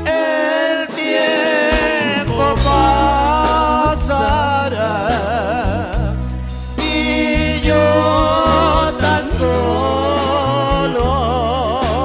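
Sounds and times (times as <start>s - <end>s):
person singing: 0.0s - 6.2s, 6.8s - 12.0s
electric bass: 2.2s - 12.0s.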